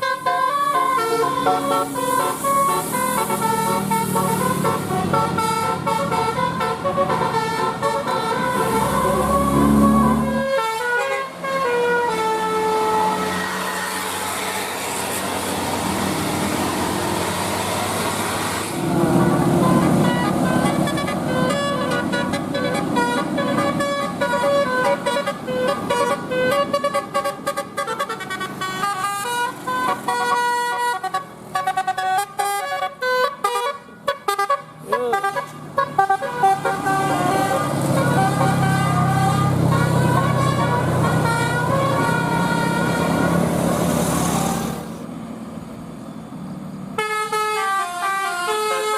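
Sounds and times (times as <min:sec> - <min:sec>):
musical air horn tune: 0:00.0 - 0:14.6, 0:19.0 - 0:43.5, 0:47.0 - 0:48.9.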